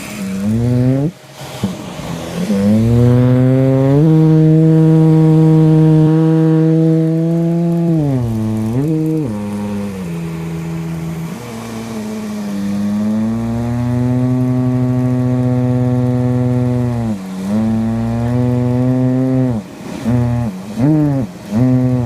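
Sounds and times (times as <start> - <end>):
vacuum cleaner farting tone: 0.0 - 12.0, 12.7 - 22.0.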